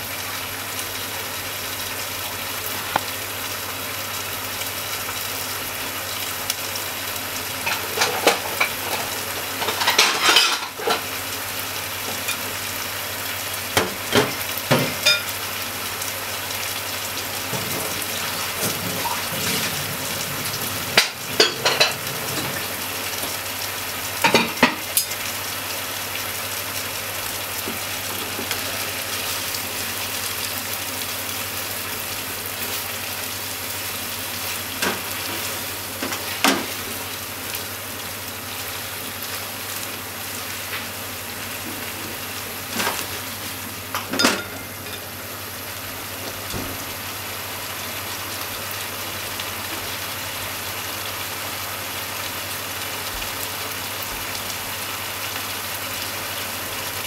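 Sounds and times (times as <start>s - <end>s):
meat and onions sizzling in a pan: 0.0s - 57.0s.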